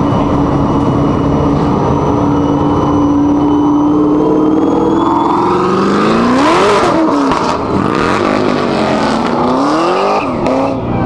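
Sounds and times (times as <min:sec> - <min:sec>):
sports car engines revving: 0:00.0 - 0:11.0.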